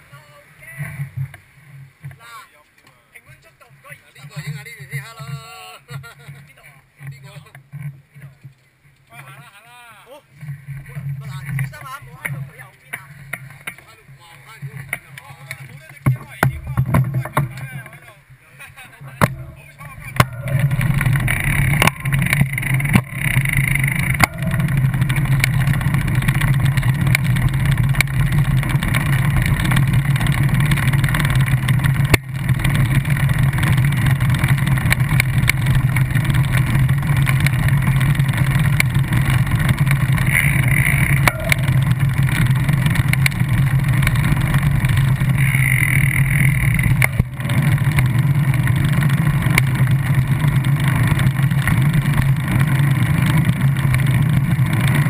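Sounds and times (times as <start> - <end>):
low road rumble: 0.0 - 55.0.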